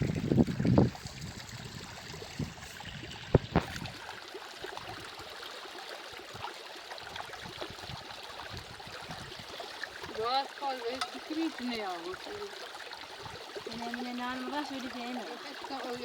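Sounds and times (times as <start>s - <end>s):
water trickling and gurgling: 0.0s - 16.0s.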